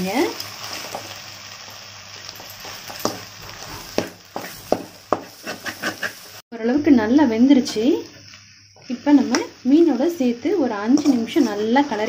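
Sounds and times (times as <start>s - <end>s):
food frying with soft sizzle: 0.0s - 12.0s.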